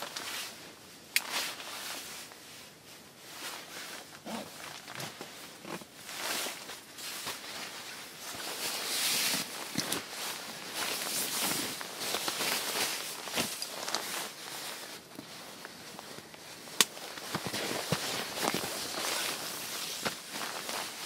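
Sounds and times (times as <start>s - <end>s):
nylon fabric rustling: 0.0s - 21.0s.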